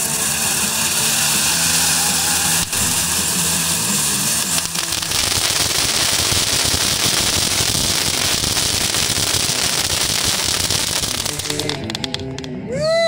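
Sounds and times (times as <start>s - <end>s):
firework fountain crackling: 0.0s - 12.5s.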